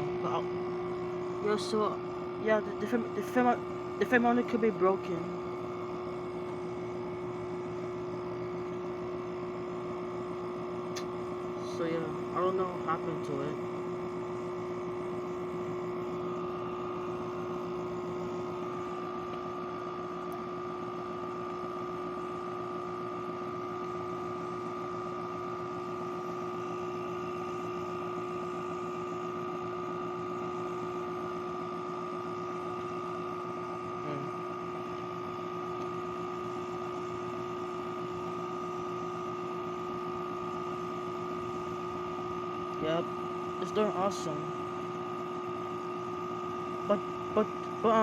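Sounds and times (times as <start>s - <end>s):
air conditioner compressor hum: 0.0s - 48.0s
blower fan rushing: 0.0s - 48.0s.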